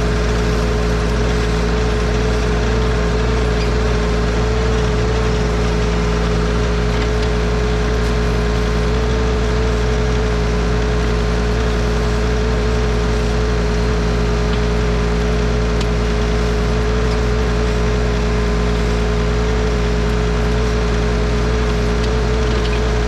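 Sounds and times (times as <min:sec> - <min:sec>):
constant high whine: 0:00.0 - 0:23.0
tractor diesel engine running: 0:00.0 - 0:23.0.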